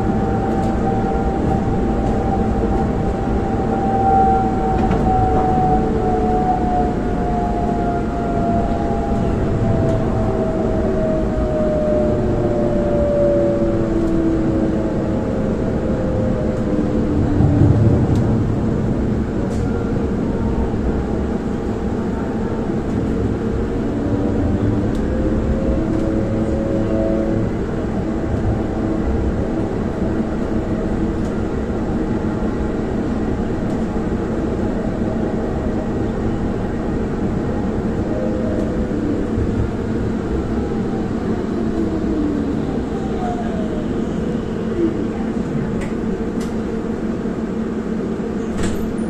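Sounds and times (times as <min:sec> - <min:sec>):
tram wheels rumbling on rail: 0:00.0 - 0:49.0.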